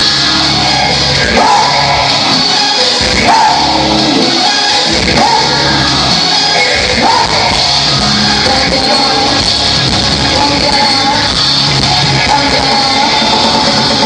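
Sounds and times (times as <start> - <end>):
electric guitars: 0.0 - 14.0
person singing: 0.0 - 14.0
rock band playing: 0.0 - 14.0.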